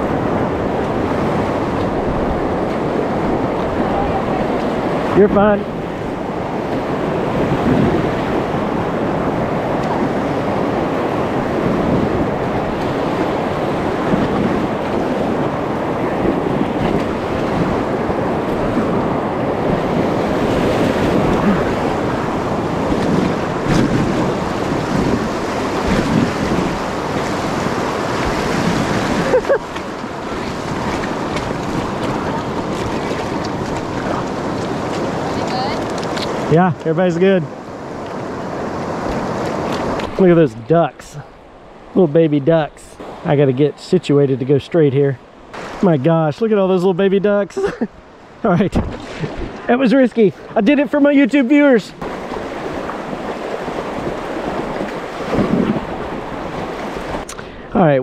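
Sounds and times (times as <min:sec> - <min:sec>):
wind buffeting microphone: 0:00.0 - 0:43.7, 0:45.2 - 0:51.0, 0:51.6 - 0:58.0
rapids rushing and splashing: 0:00.0 - 0:58.0.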